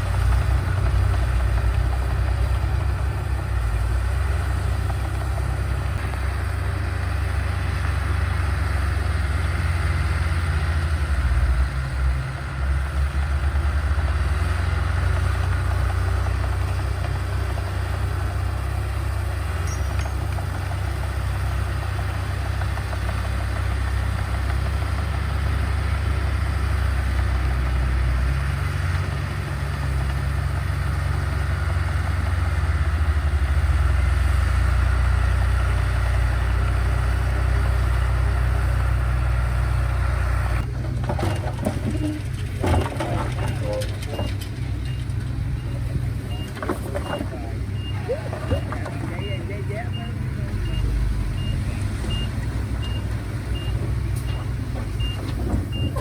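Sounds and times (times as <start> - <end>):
diesel machinery engine rumble: 0.0 - 56.0.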